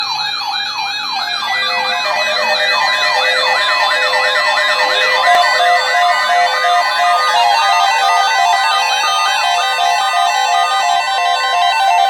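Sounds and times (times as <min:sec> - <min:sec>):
electronic siren yelping: 0:00.0 - 0:12.0
steady siren tones: 0:00.0 - 0:12.0.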